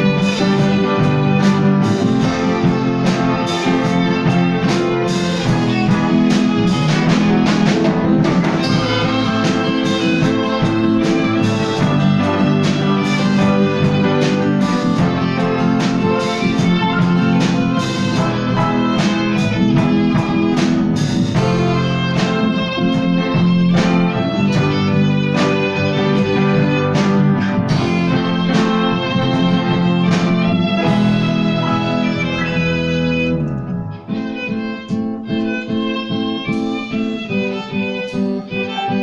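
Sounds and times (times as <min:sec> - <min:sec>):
plucked accompaniment chords: 0:00.0 - 0:39.0
violin melody: 0:00.0 - 0:39.0.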